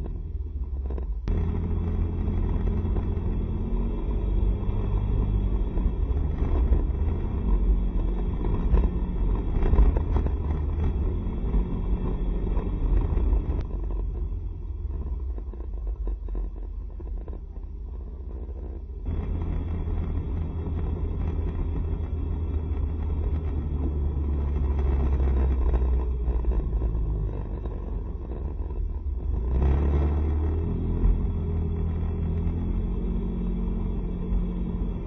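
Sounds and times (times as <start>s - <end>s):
road noise: 0.0s - 35.0s
scooter engine while riding: 0.0s - 35.0s
wind rumble: 0.0s - 35.0s.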